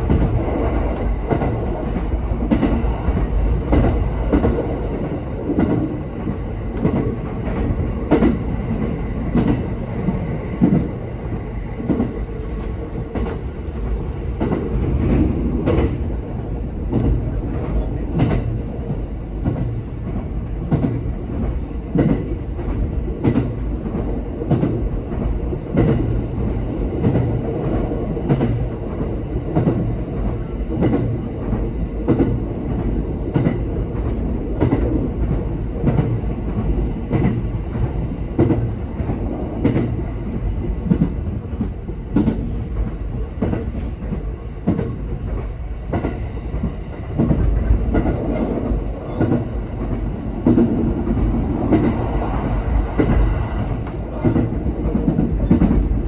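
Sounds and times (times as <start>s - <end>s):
train interior rumble: 0.0s - 56.0s.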